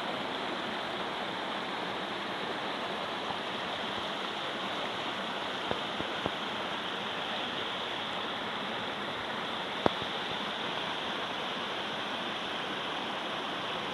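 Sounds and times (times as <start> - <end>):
water rushing: 0.0 - 13.9.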